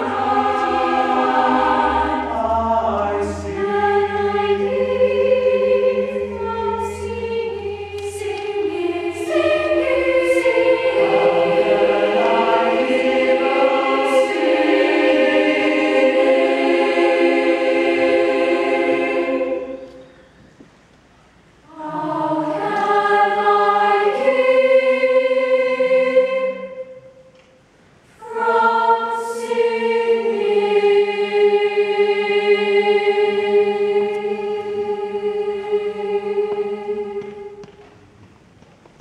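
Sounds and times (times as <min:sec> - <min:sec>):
children's choir singing: 0:00.0 - 0:20.6, 0:21.6 - 0:38.2.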